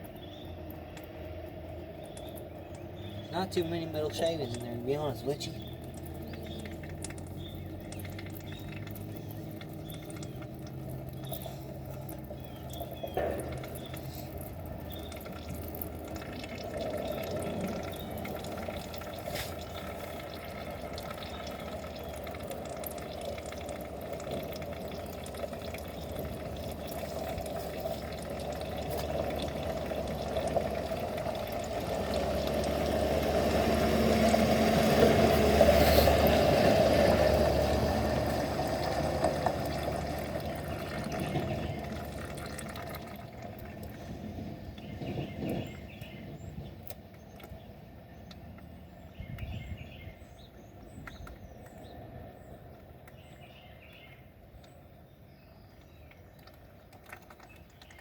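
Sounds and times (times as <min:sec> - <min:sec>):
oil pouring into a container: 0:00.0 - 0:47.6, 0:55.7 - 0:58.0.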